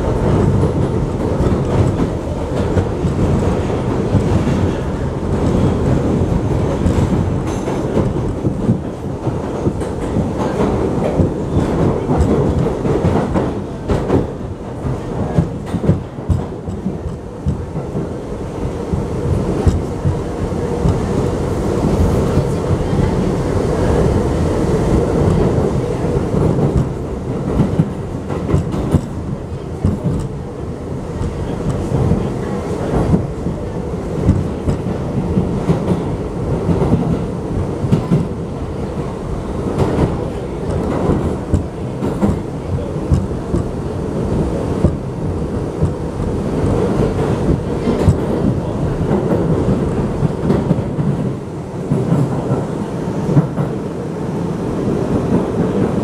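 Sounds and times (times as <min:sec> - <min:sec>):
rail joint clicks and knocks: 0:00.0 - 0:56.0
train wheels rumbling on rail: 0:00.0 - 0:56.0.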